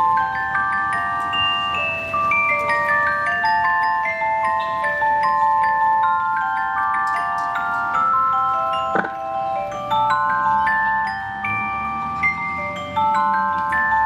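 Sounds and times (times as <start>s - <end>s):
bell-like keyboard melody: 0.0s - 14.0s.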